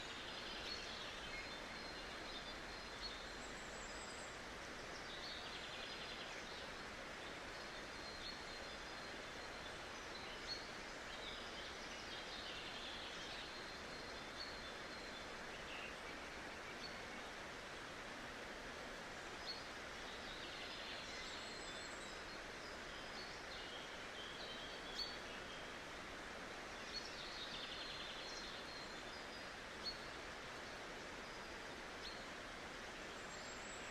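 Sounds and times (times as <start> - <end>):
steady outdoor hiss: 0.0 - 33.9.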